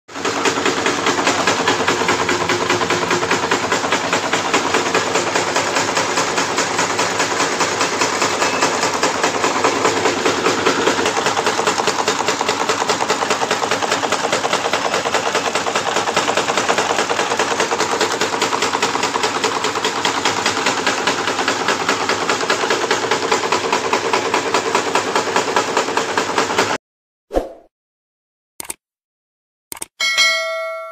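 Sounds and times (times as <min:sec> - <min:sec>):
nail-making machine clatter: 0:00.1 - 0:26.8.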